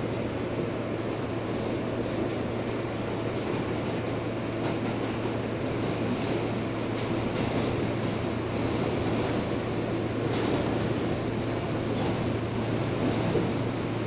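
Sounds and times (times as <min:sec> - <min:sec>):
subway wheel and rail rumble: 0:00.0 - 0:14.0.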